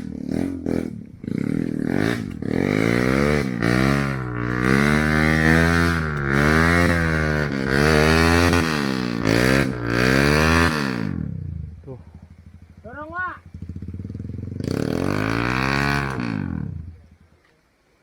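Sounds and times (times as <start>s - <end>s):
motorcycle engine revving: 0.0s - 17.3s.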